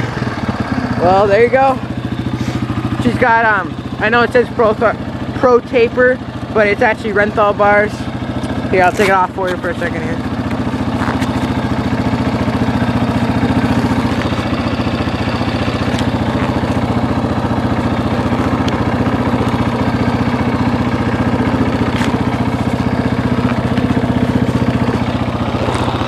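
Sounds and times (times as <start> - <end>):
dirt bike engine idling: 0.0 - 26.0.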